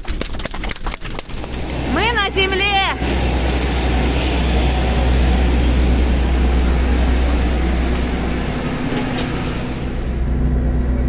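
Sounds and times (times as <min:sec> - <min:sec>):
jet airliner whine and rumble: 0:00.6 - 0:11.0.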